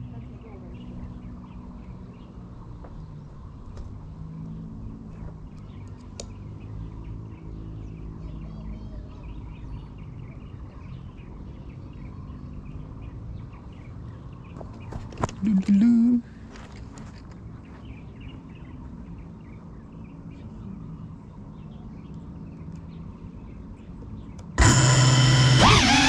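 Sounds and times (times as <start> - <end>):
birds chirping and calling: 5.1 - 26.0.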